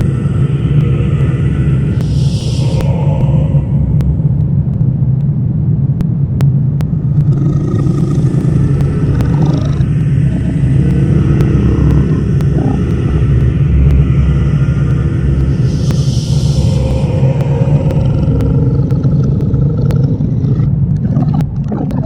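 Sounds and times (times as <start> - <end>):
faint clicks: 0.0 - 5.4, 6.0 - 22.0
low rumbling drone: 0.0 - 22.0.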